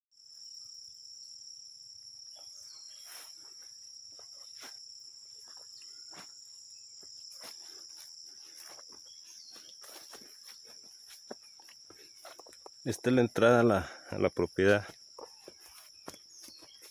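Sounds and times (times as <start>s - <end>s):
insects chorus: 0.2s - 16.9s
footsteps on dirt path: 3.0s - 16.9s.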